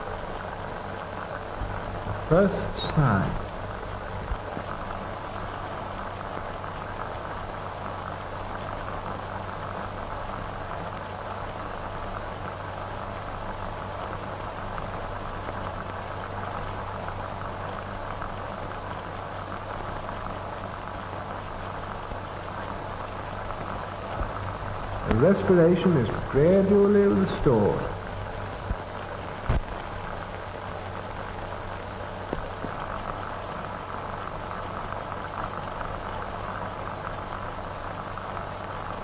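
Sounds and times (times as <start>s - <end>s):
film soundtrack hiss and crackle: 0.0s - 39.0s
low hum: 0.0s - 39.0s.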